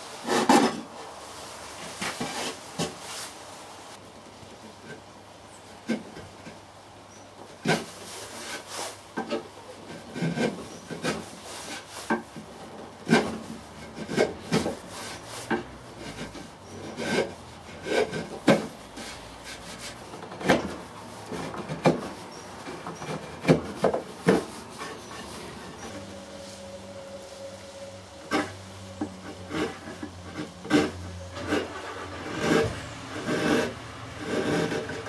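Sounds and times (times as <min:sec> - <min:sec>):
chisel scraping wood: 0:05.8 - 0:27.2, 0:28.2 - 0:35.0.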